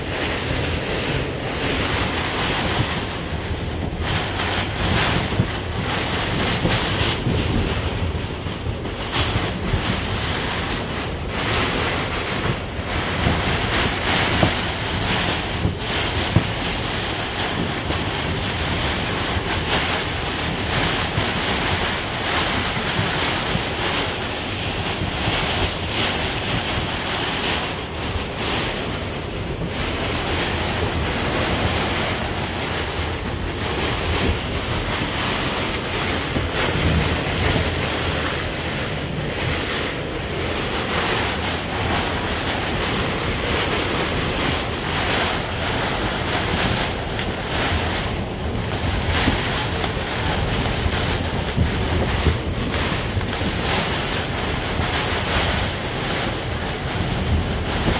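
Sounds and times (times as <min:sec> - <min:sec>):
heavy rain on vinyl enclosure: 0:00.0 - 0:57.9
storm wind: 0:00.0 - 0:57.9
wind buffeting microphone: 0:00.0 - 0:57.9.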